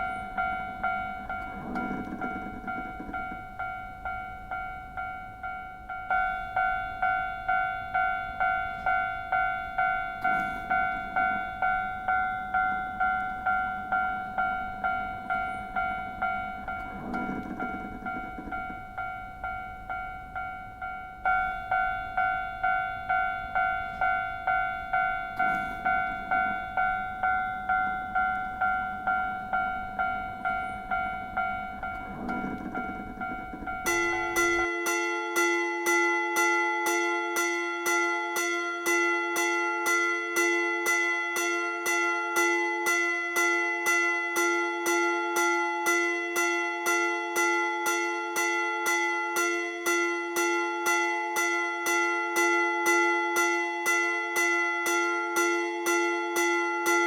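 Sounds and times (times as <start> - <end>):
level-crossing warning bell: 0.0 - 57.0.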